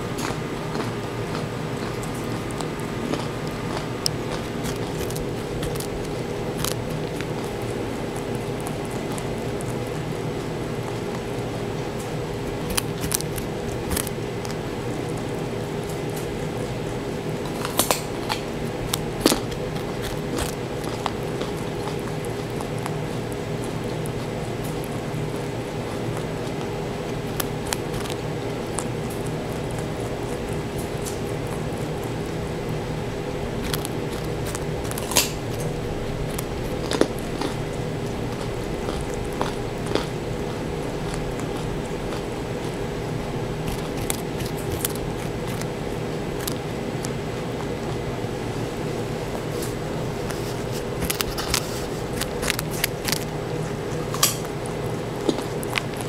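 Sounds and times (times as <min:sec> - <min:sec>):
rabbit crunching carrot: 0:00.0 - 0:56.0
steady background hum: 0:00.0 - 0:56.0.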